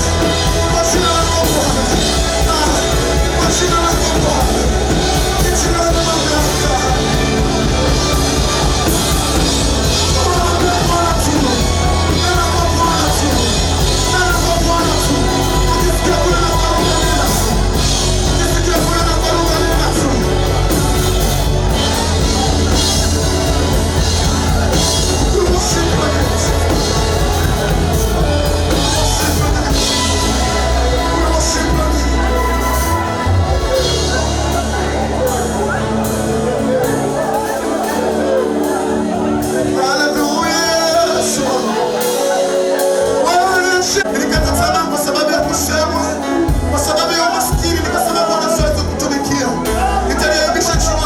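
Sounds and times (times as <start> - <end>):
amplified singing: 0.0 - 51.0
band with steady bass: 0.0 - 51.0.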